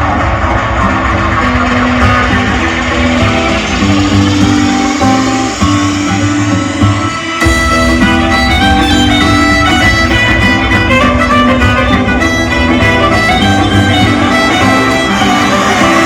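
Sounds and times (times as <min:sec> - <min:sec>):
loud music over sound system: 0:00.0 - 0:16.0.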